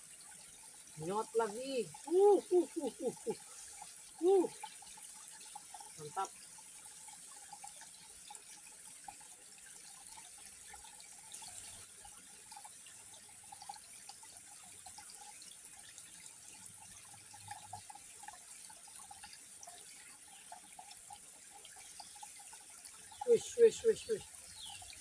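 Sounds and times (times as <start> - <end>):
water drips and splashes: 0.0 - 25.0
water trickling and lapping: 0.0 - 25.0.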